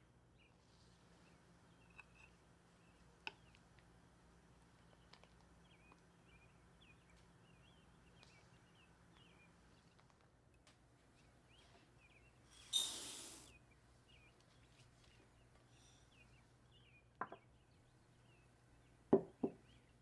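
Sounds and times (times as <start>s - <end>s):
faint bird chirps: 0.0s - 3.6s, 4.6s - 10.2s, 11.1s - 20.0s.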